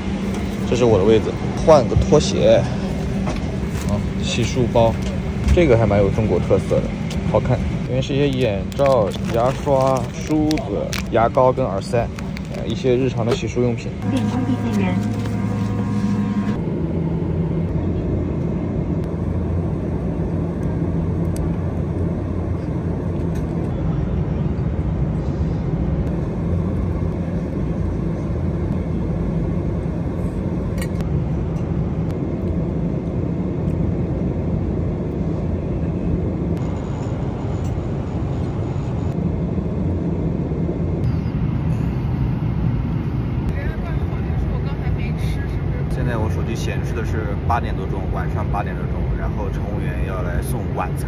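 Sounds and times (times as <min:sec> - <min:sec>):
jet airliner cabin noise: 0:00.0 - 0:51.0.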